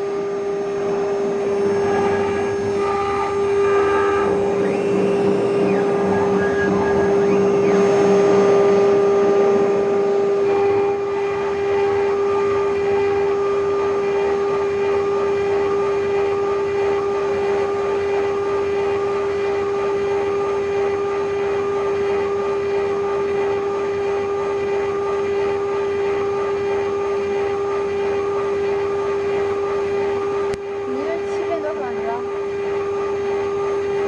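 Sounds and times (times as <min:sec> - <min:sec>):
router cutting metal: 0:00.0 - 0:34.0
router spindle whine: 0:00.0 - 0:34.0.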